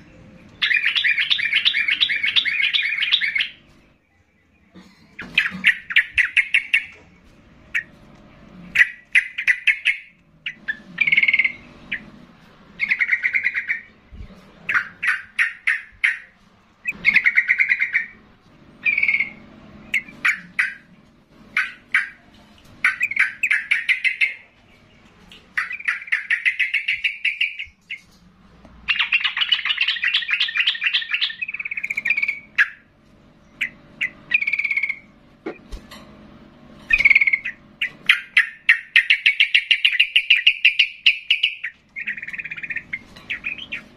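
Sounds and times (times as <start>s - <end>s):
bird singing bubbling phrases: 0.0s - 7.9s, 8.7s - 12.2s, 12.8s - 18.1s, 21.6s - 28.1s, 28.9s - 35.1s, 36.9s - 43.9s.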